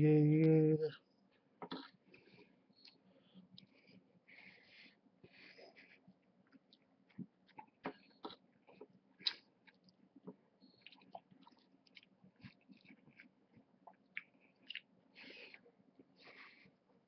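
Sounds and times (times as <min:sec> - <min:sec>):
person chewing food: 0:01.6 - 0:16.8.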